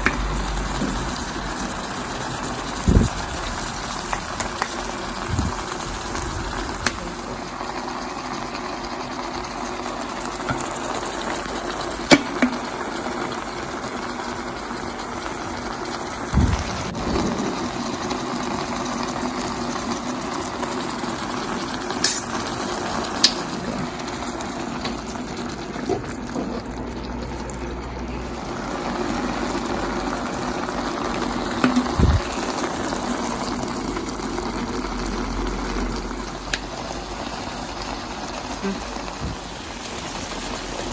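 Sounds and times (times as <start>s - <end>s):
liquid bubbling in a pan: 0.0s - 40.9s.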